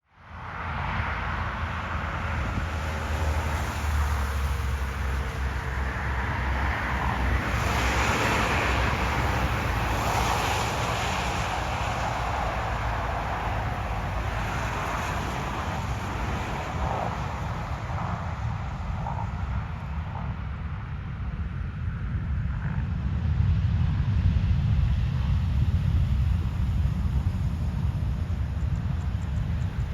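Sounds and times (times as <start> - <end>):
jet engine rush and rumble: 0.3 - 29.9
wind on microphone: 0.4 - 29.9.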